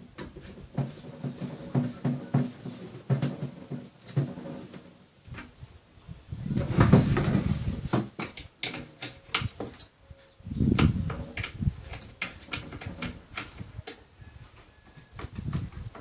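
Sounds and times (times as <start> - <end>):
rumbling handling noise: 0.0 - 16.0.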